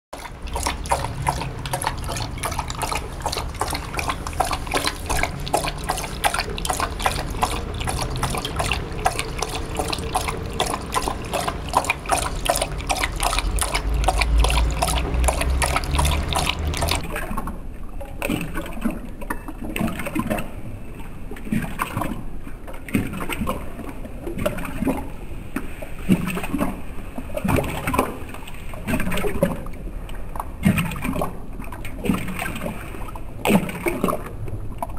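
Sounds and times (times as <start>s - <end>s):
dog lapping water from metal bowl: 0.1s - 17.6s, 18.2s - 20.6s, 21.4s - 22.2s, 22.8s - 25.1s, 27.4s - 29.7s, 30.4s - 34.9s.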